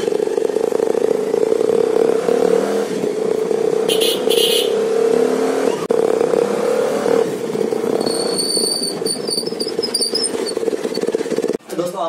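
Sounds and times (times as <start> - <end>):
motorcycle exhaust note: 0.0 - 11.6.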